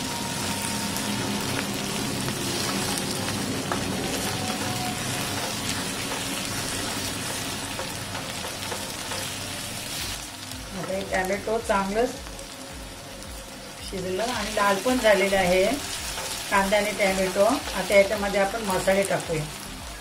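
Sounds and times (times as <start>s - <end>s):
onion and tomato sizzling in oil: 0.0s - 20.0s.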